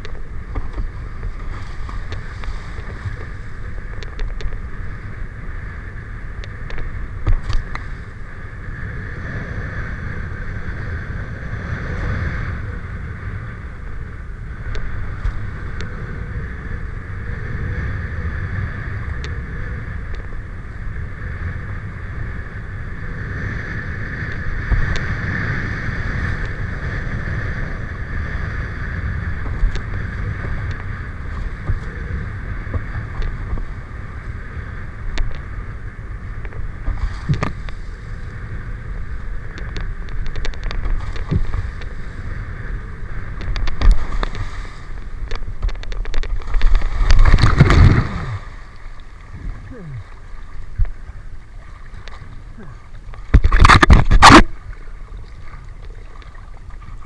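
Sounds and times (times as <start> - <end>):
steady rumbling noise: 0.0 - 55.4
mid-pitched hum: 0.0 - 57.0.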